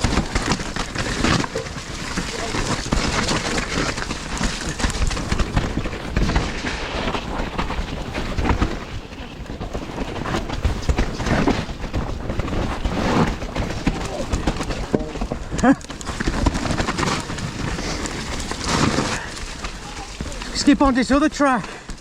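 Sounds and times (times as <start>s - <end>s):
mountain bike rattling: 0.0s - 22.0s
tyre and wind rumble: 0.0s - 22.0s.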